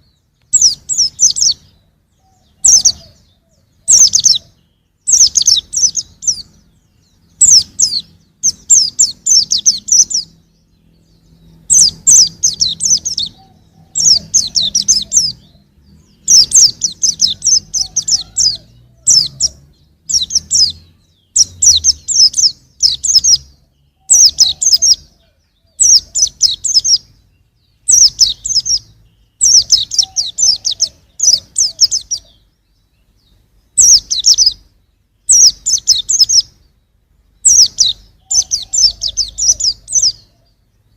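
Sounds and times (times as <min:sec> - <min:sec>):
bird twittering: 0:00.0 - 0:40.9.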